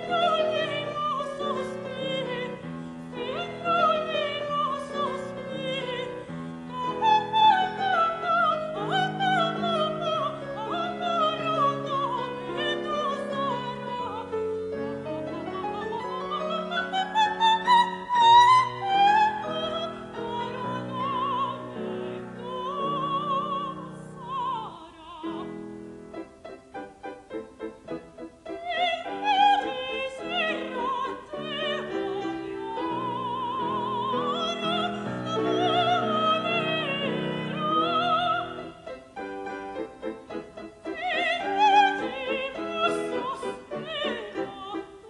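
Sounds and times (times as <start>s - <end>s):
soprano singing opera: 0.0s - 25.8s, 28.4s - 45.0s
piano accompaniment: 0.0s - 45.0s.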